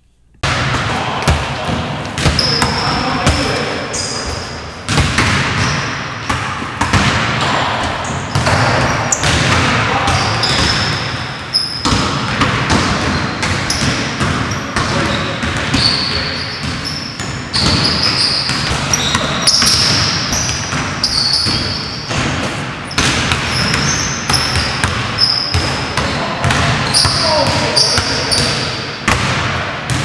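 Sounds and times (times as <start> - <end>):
basketballs bouncing on hardwood floor: 0.4 - 30.0.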